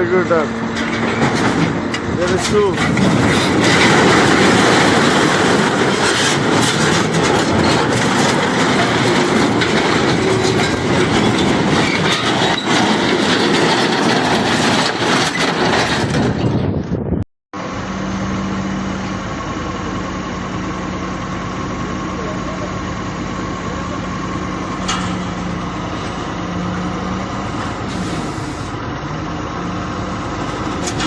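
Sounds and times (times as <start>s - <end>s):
heavy machinery rumble and clatter: 0.0s - 31.0s.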